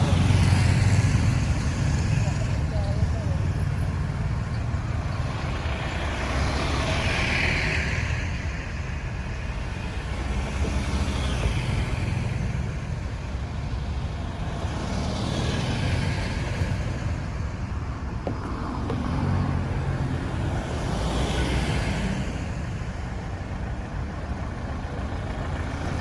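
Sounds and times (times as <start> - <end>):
road traffic rumble: 0.0 - 26.0
vehicles passing: 0.0 - 26.0.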